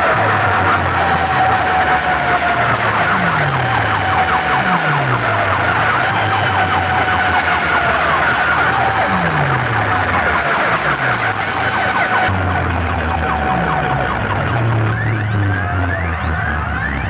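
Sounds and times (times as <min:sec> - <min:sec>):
deep bass sweeps: 0:00.0 - 0:17.0
rapid ticking: 0:00.0 - 0:17.0
siren-like wailing tone: 0:00.0 - 0:17.0.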